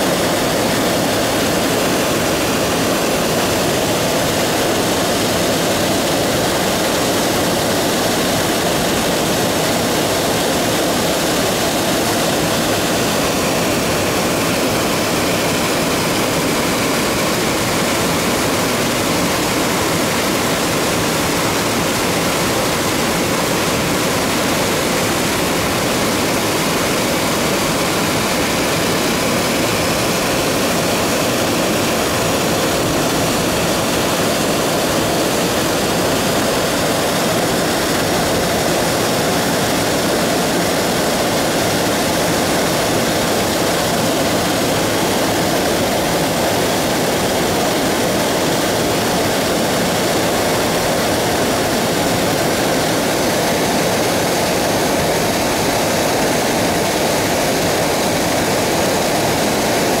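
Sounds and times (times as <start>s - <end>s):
stream water flowing over rocks: 0.0s - 60.0s.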